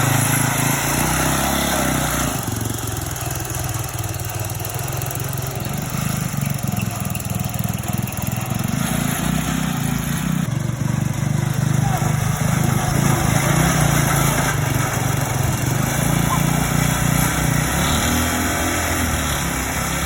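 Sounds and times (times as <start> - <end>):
small tractor engine pulsing: 0.0 - 20.0.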